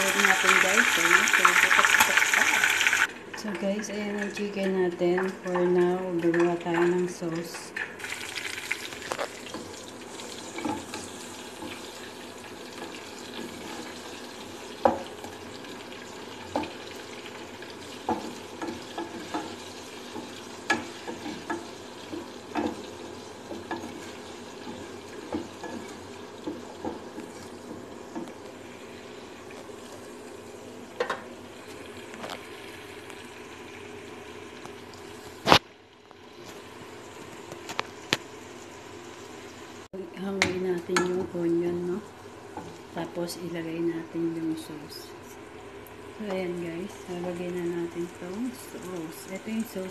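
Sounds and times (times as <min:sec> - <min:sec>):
oil sizzling in a frying pan: 0:00.0 - 0:49.9.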